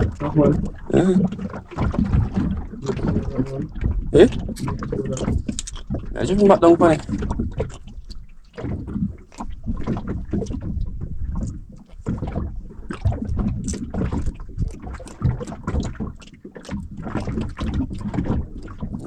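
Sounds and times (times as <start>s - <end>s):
wind on microphone: 0.0s - 16.1s
water slapping against boat hull: 0.0s - 19.0s.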